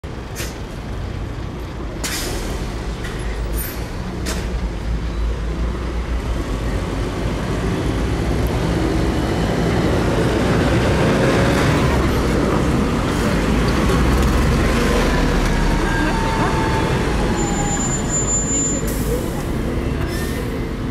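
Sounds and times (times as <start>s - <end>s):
bus engine rumble: 0.0s - 20.9s
street traffic: 0.0s - 20.9s.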